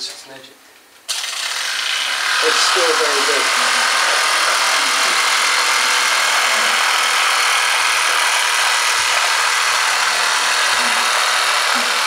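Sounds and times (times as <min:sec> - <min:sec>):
toy steam engine hissing: 0:01.1 - 0:12.0.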